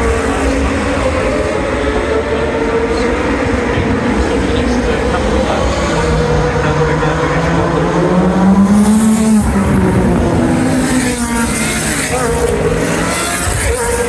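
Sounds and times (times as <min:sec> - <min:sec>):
racing car engines revving: 0:00.0 - 0:14.0.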